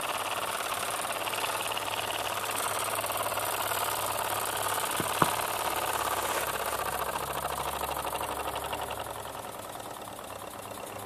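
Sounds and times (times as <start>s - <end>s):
toy steam engine chuffing: 0.0s - 11.0s.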